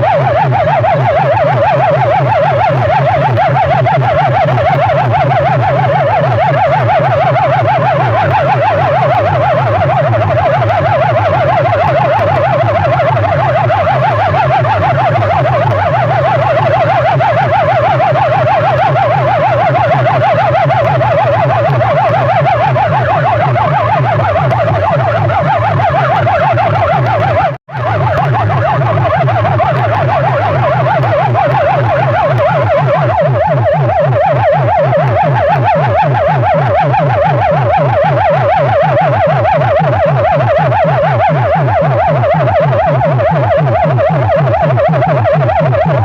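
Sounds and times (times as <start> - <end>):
pulsing bass: 0.0 - 46.0
siren-like warbling tone: 0.0 - 46.0.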